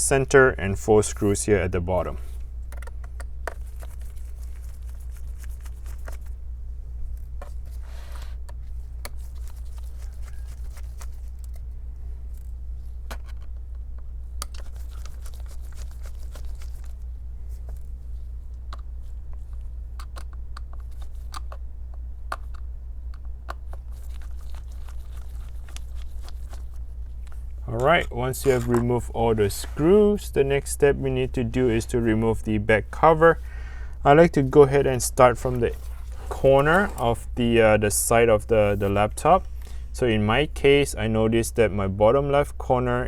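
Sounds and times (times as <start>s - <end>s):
low hum: 0.0s - 43.0s.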